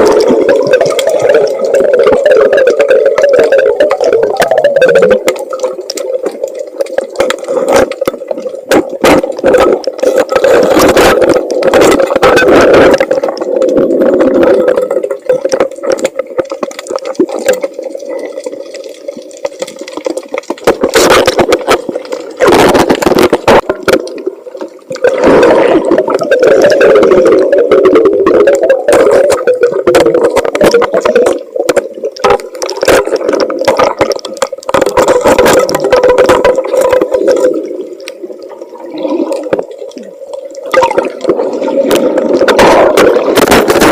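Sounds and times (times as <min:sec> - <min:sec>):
sea water splashing: 0:00.0 - 0:43.9.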